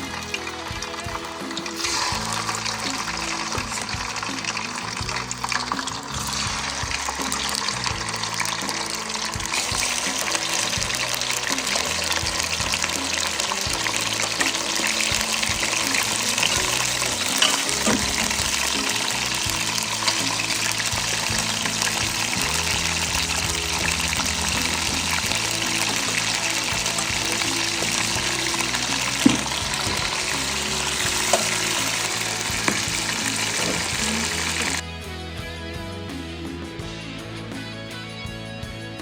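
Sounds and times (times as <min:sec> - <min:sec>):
chicken sizzling in hot oil: 0:00.0 - 0:34.8
background music: 0:00.0 - 0:39.0.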